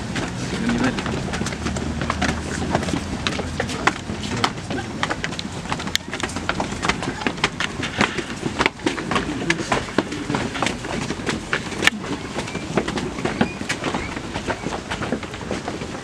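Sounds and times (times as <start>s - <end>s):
crowd footsteps on concrete: 0.0s - 16.0s.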